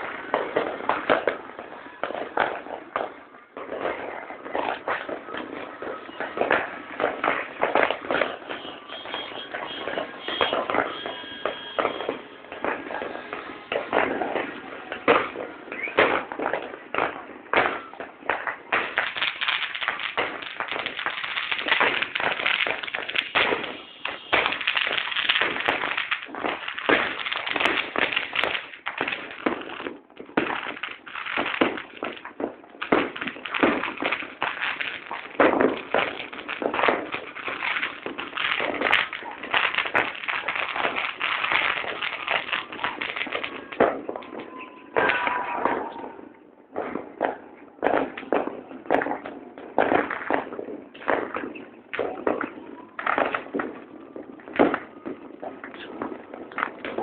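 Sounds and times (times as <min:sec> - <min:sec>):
fireworks cracking and popping: 0:00.0 - 0:57.0.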